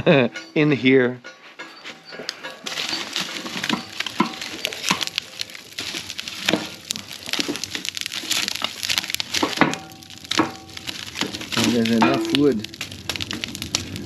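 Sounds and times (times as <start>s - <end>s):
fire crackling: 0.0s - 14.0s
firewood and metal clunks: 0.0s - 14.0s
rustling: 0.4s - 14.0s.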